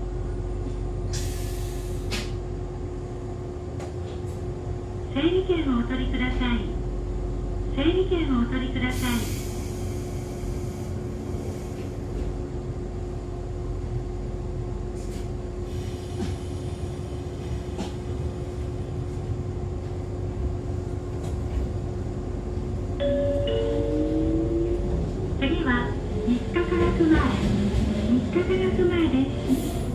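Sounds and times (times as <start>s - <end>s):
railcar interior hum: 0.0s - 29.9s.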